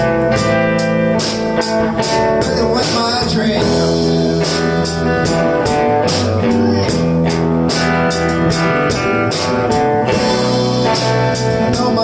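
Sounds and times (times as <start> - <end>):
bass guitar: 0.0 - 12.0
drum kit with cymbal strikes: 0.0 - 12.0
electric guitars: 0.0 - 12.0.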